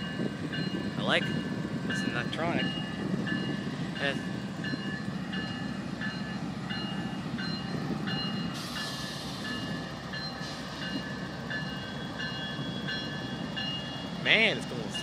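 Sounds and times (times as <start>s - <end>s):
diesel locomotive rumble: 0.0s - 15.0s
locomotive bell dinging: 0.0s - 15.0s.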